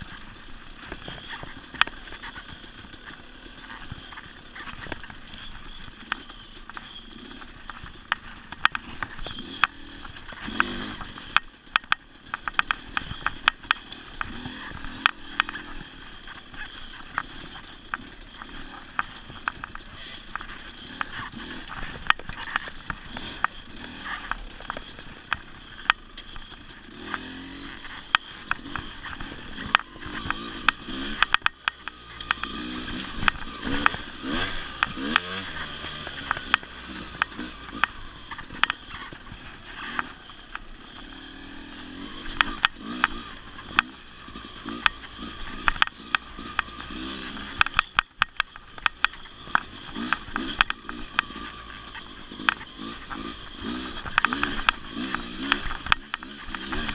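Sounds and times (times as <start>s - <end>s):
bike knocks and rattles over bumps: 0.0s - 56.9s
dirt bike engine revving: 0.0s - 56.9s.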